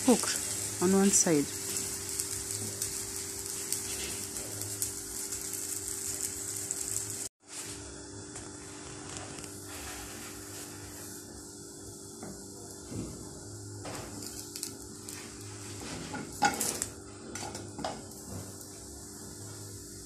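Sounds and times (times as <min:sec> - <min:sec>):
batter sizzling in frying pan: 0:00.0 - 0:20.0.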